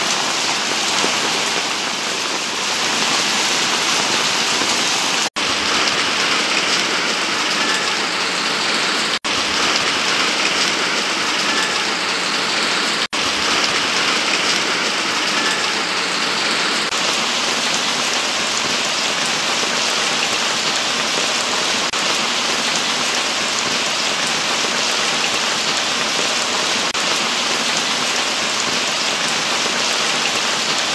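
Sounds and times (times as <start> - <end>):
falling rainwater hiss: 0.0 - 30.9.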